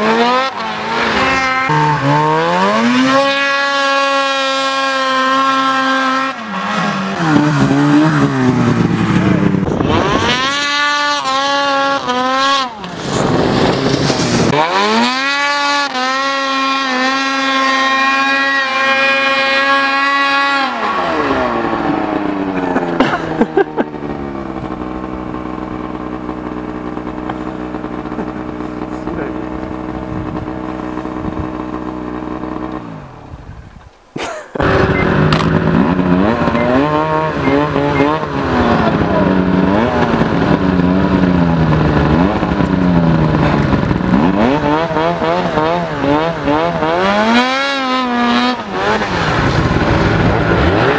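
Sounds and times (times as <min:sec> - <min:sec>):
snowmobile engine revving: 0:00.0 - 0:50.9.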